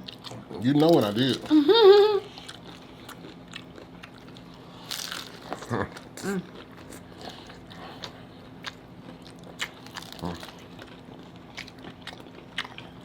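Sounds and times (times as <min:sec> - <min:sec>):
crunching and chewing taco shells: 0:00.0 - 0:01.6, 0:02.2 - 0:13.0.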